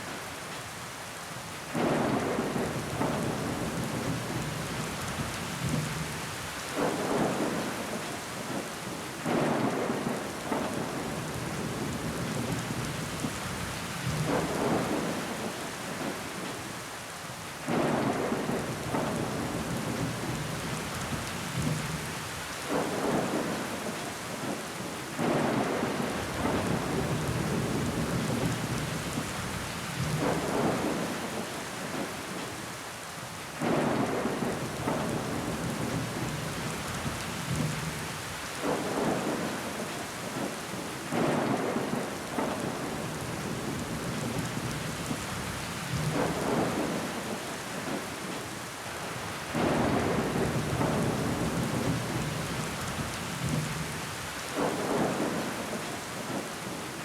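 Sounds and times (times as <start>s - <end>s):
rain on a window pane: 0.0s - 57.0s.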